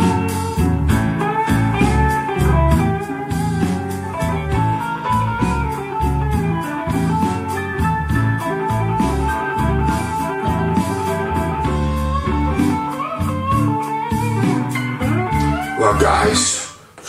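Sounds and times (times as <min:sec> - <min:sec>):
guitar music with bass beat: 0:00.0 - 0:17.0.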